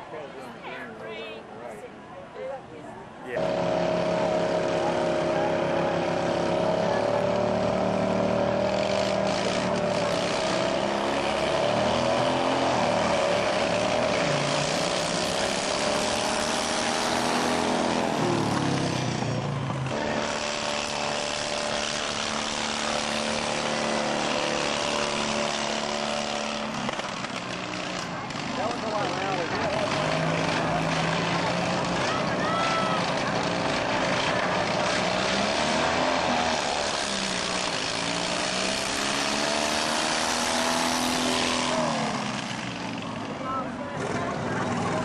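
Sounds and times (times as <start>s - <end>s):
racing lawnmower engines: 0.0s - 45.0s.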